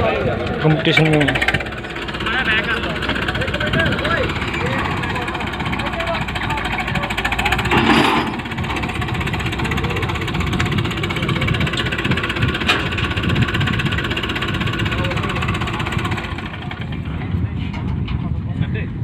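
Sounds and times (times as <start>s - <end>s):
tractor diesel engine chugging: 0.0s - 18.5s.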